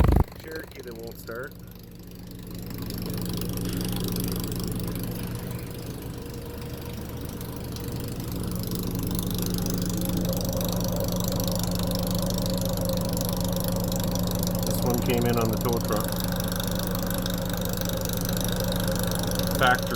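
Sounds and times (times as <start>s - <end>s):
vehicle engine idling: 0.0s - 19.9s.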